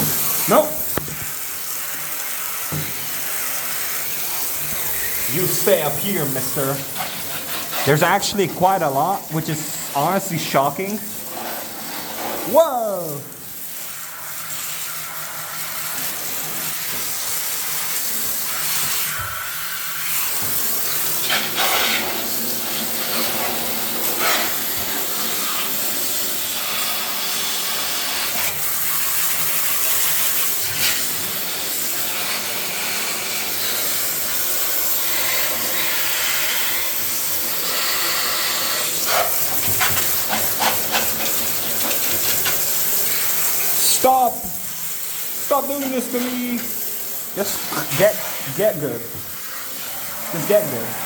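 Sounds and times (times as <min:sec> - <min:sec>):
pressurised spray hissing: 0:00.0 - 0:51.0.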